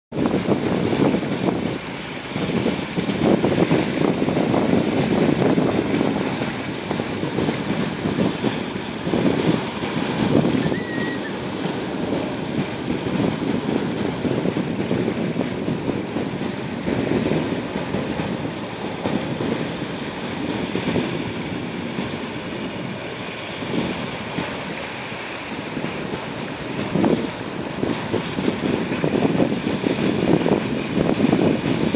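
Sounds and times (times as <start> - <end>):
waves washing on shore: 0.1 - 31.9
wind rumbling on microphone: 0.1 - 31.9.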